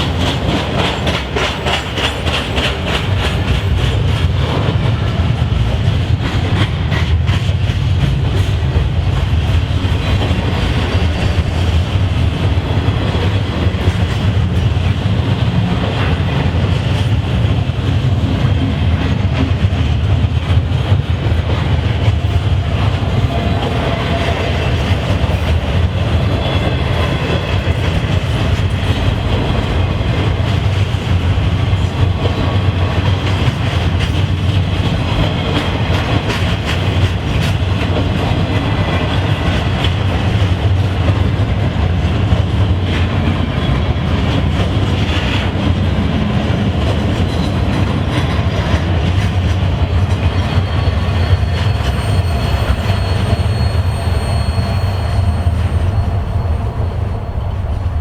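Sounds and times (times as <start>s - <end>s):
train rumbling past: 0.0s - 58.0s
wheels clacking over rail joints: 0.0s - 58.0s.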